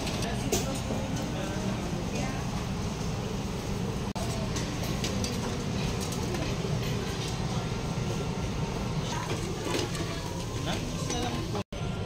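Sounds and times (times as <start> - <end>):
low hum and rumble of room: 0.0 - 12.0.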